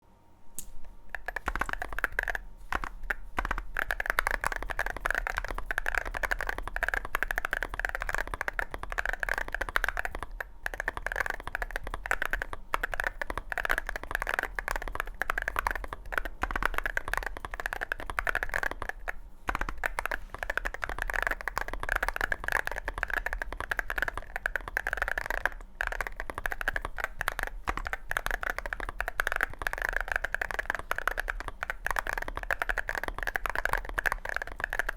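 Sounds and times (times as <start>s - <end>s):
fast keyboard typing: 1.0s - 34.9s.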